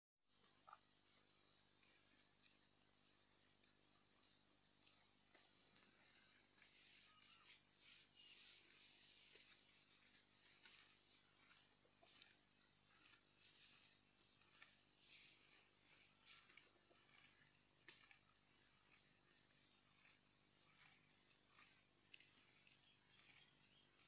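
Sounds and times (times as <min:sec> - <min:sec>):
insect's sharp steady tone: 0:00.2 - 0:24.0
high-pitched insect chorus: 0:00.3 - 0:24.0.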